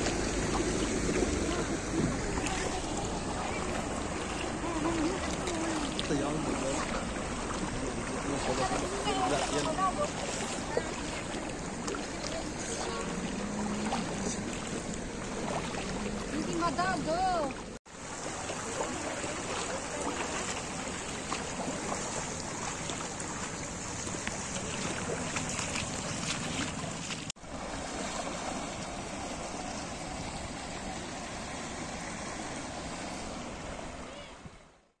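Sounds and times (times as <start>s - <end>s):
rushing floodwater: 0.0s - 35.0s.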